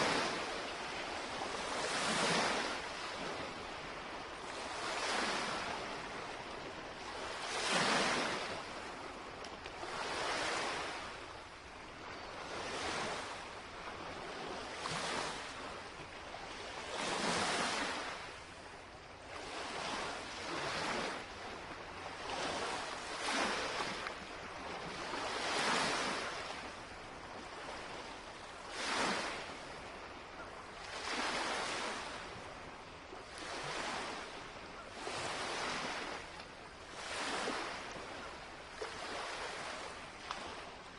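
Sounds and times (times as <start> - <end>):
lake waves lapping on shore: 0.0 - 40.9.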